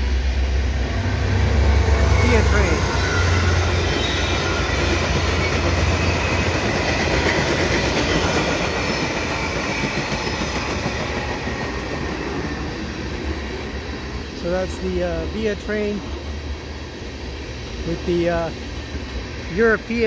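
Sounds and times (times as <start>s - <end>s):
diesel locomotive engine drone: 0.0s - 20.0s
train wheels on rails: 0.0s - 20.0s.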